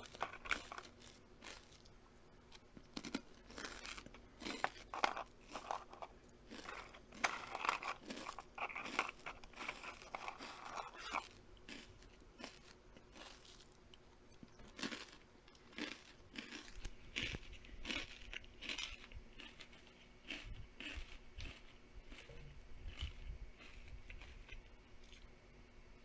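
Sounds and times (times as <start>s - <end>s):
crunching and chewing: 0.0s - 25.7s.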